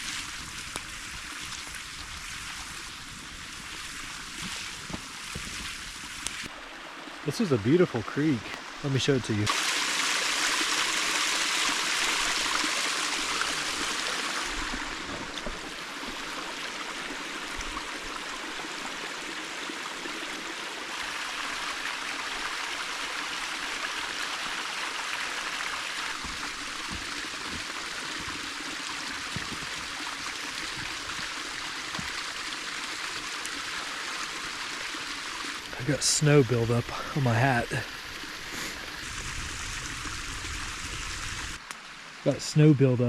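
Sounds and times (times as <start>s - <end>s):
creek water rushing: 0.0s - 43.0s.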